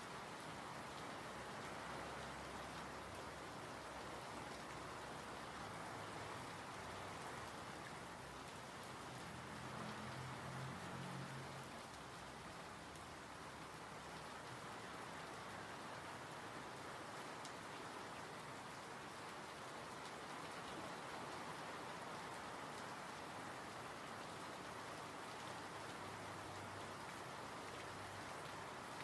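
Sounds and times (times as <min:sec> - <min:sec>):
soft rain falling: 0:00.0 - 0:29.0.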